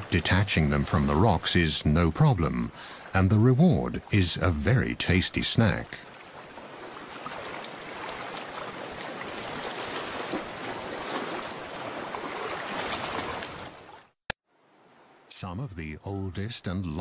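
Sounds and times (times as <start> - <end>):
water washing and splashing: 0.0 - 14.2.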